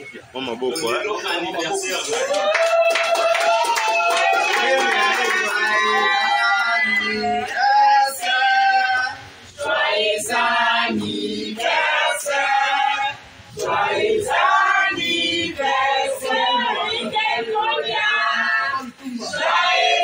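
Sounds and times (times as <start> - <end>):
group of voices singing: 4.0 - 20.0.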